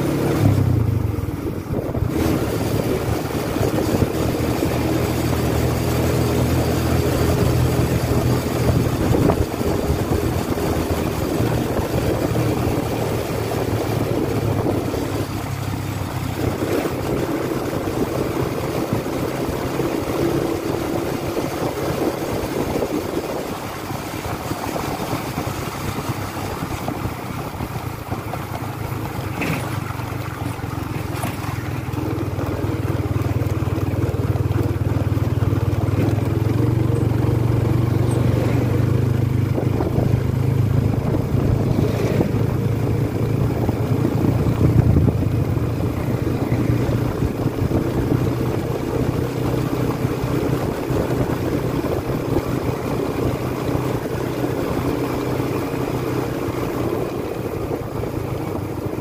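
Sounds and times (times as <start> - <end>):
road noise: 0.0 - 59.0
vehicle engine running: 0.0 - 59.0
wind: 0.0 - 59.0.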